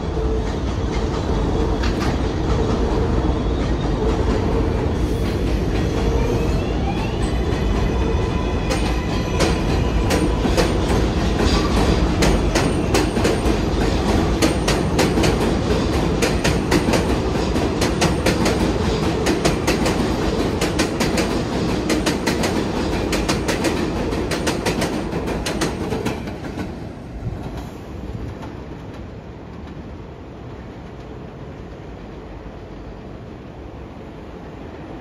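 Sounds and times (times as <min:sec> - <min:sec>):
subway train wheels clattering: 0:00.0 - 0:35.0.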